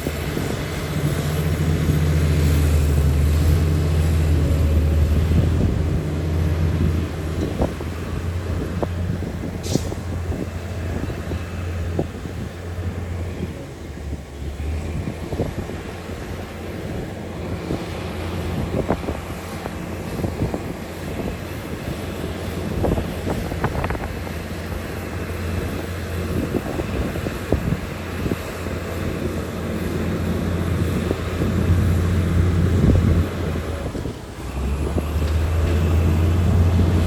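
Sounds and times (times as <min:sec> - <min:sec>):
heavy diesel machinery drone: 0:00.0 - 0:37.0.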